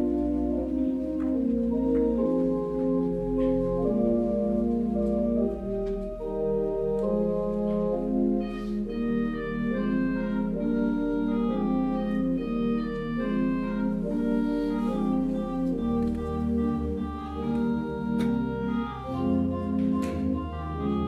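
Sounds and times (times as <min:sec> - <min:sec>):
church organ playing chords: 0:00.0 - 0:21.0.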